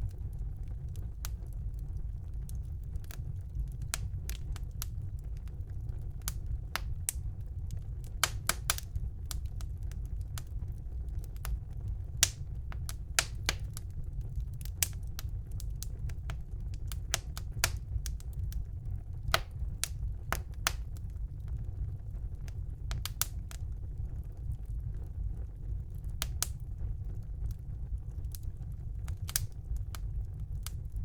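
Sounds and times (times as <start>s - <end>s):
fire flames rumbling: 0.0s - 31.0s
wood fire crackling and popping: 0.0s - 31.0s.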